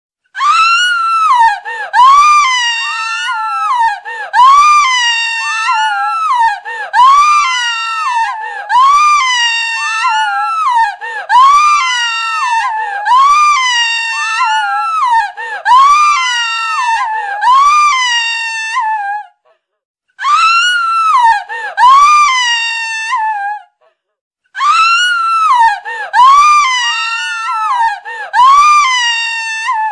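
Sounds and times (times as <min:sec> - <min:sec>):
woman screaming: 0:00.4 - 0:19.3, 0:20.2 - 0:23.7, 0:24.6 - 0:29.9.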